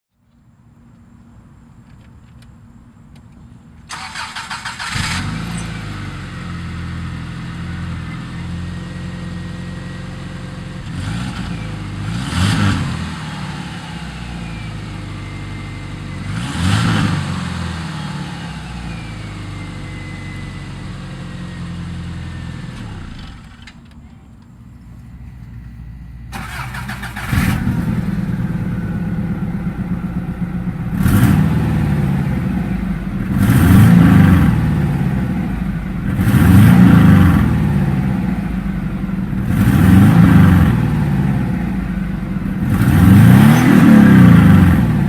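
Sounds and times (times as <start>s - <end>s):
car engine cranking and idling: 1.0s - 45.0s
engine revving: 3.9s - 23.8s, 25.0s - 45.0s.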